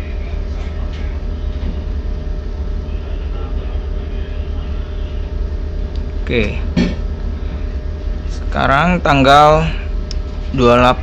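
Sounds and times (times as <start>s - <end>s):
constant hum: 0.0s - 11.0s
low mechanical rumble: 0.0s - 11.0s.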